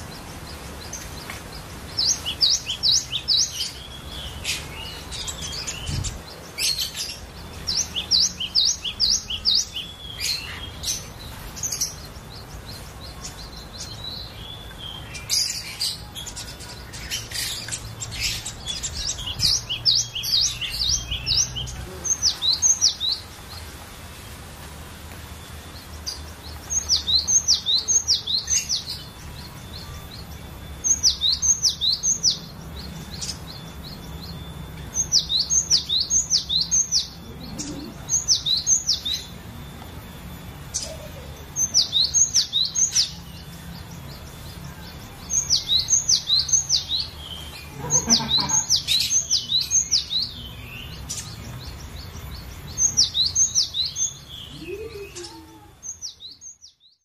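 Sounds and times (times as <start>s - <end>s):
bird singing whistled notes: 0.0s - 23.6s, 25.3s - 57.0s.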